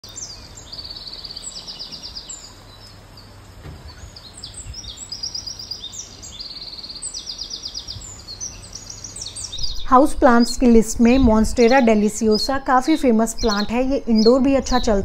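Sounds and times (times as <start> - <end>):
low steady hum: 0.0 - 15.0
small birds trilling and chirping: 0.0 - 15.0.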